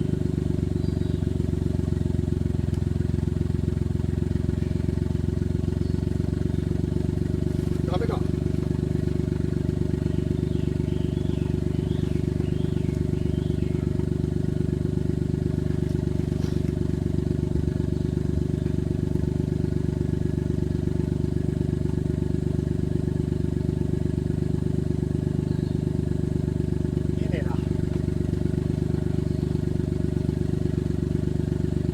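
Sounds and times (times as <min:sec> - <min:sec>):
car engine running steadily: 0:00.0 - 0:31.9.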